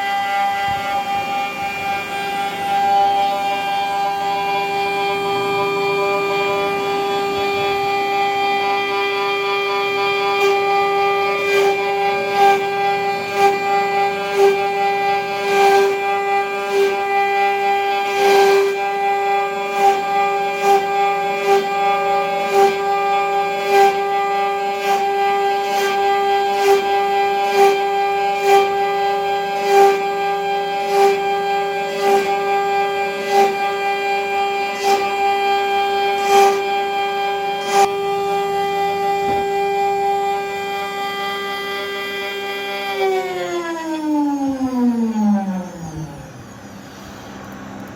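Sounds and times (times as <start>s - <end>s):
bit cutting into wood: 0.0s - 47.9s
router spindle whine: 0.0s - 47.9s.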